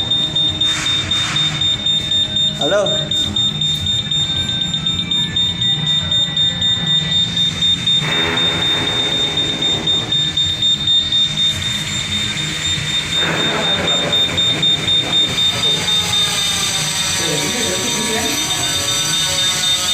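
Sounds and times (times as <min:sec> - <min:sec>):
fire alarm high-pitched tone: 0:00.0 - 0:19.9.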